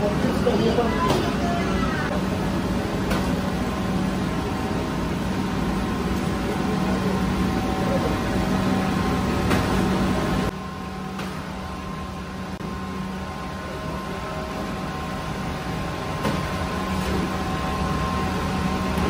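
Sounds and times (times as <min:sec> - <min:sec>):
bread oven machinery roaring: 0:00.0 - 0:19.0.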